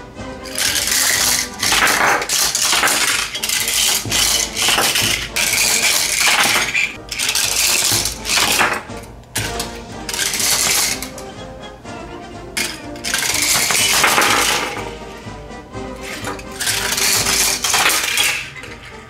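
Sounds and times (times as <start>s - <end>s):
toy cars clattering on plastic ramps: 0.4s - 11.3s, 12.6s - 15.0s, 16.0s - 19.0s.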